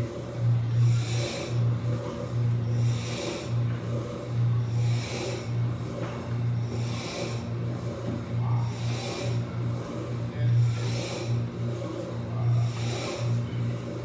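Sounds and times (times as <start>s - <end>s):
low machine hum: 0.0s - 14.0s
breathy hiss: 0.8s - 5.6s, 6.6s - 14.0s.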